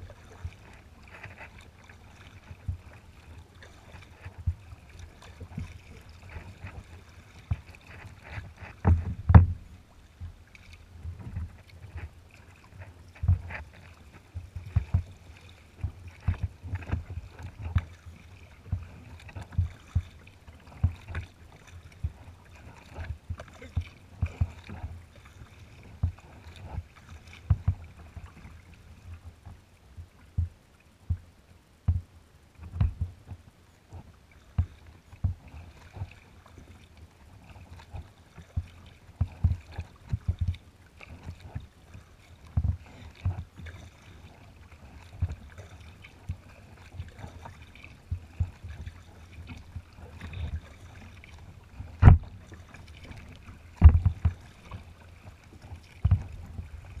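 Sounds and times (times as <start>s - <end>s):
waves slapping against kayak: 0.0s - 57.0s.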